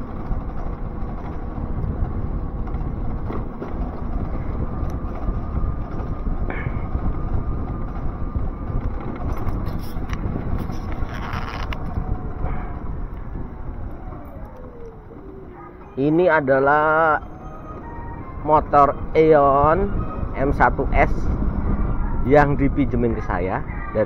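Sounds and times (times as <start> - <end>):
electric scooter motor humming: 0.0 - 24.0
road rumble: 0.0 - 24.0
wind: 0.0 - 24.0.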